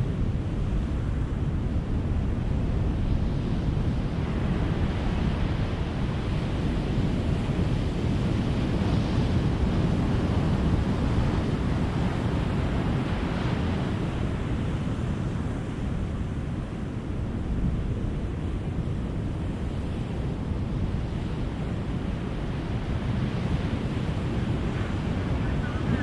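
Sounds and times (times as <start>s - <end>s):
surf washing on a beach: 0.0s - 26.0s.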